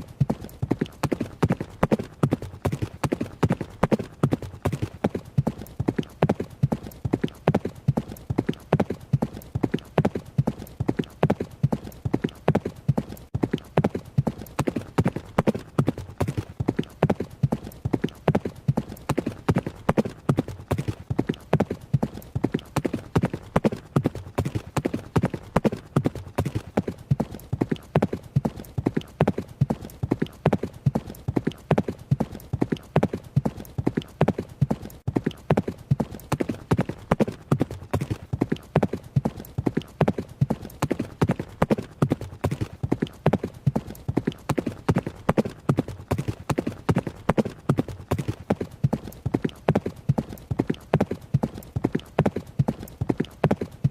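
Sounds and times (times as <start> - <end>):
horse hoofbeats running: 0.0 - 53.9.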